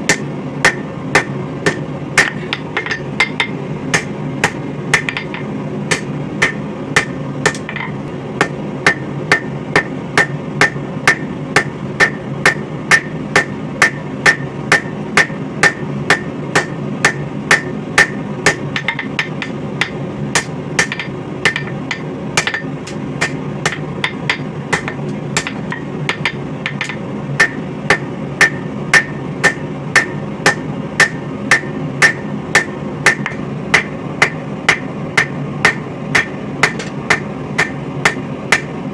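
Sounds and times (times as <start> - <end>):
hammer striking steel on anvil: 0.0 - 38.7.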